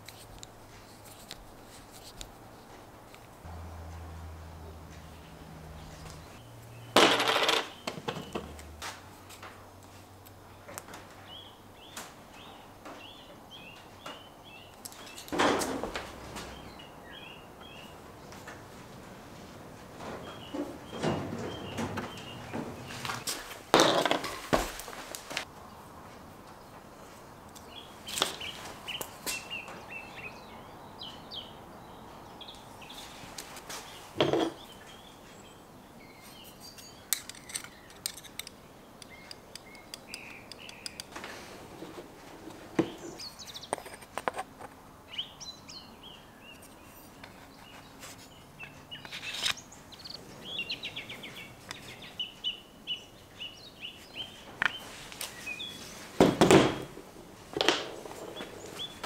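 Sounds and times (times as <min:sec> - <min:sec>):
birds chirping: 0:03.4 - 0:09.0, 0:10.4 - 0:24.4, 0:26.6 - 0:44.1, 0:45.0 - 0:59.0.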